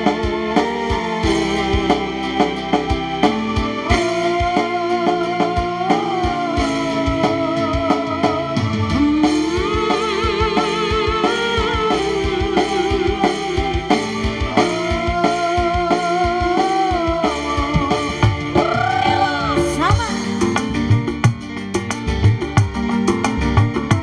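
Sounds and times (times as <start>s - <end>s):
guitar: 0.0s - 24.0s
melodic lead line with vibrato: 0.0s - 24.0s
steady drum beat: 0.0s - 24.0s.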